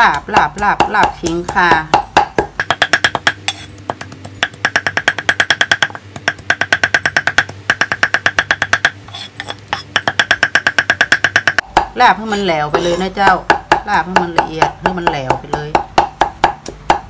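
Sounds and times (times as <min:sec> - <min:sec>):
knife chopping on wooden block: 0:00.1 - 0:17.0.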